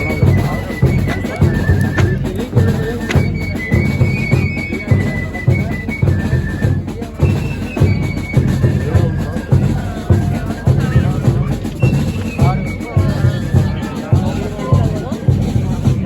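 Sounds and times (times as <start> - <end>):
high piped melody: 0.0 - 14.3
drums beating driving rhythm: 0.0 - 16.0.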